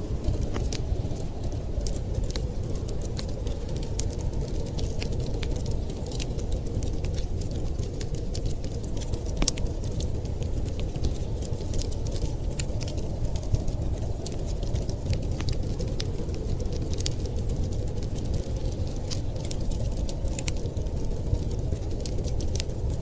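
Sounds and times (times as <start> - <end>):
low rumble of fire: 0.0 - 23.0
wood fire pops and snaps: 0.0 - 23.0.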